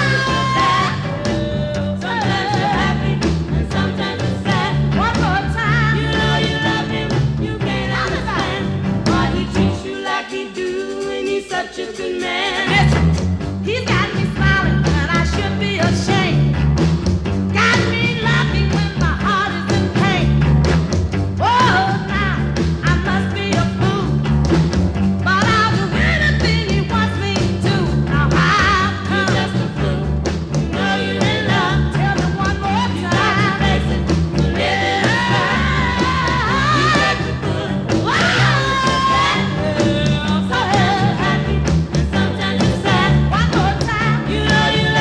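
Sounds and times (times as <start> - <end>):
rhythm and blues band playing: 0.0 - 45.0.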